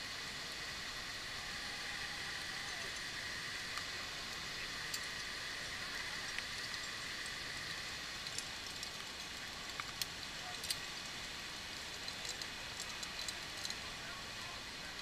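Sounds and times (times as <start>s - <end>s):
rainforest ambience hiss: 0.0s - 15.0s.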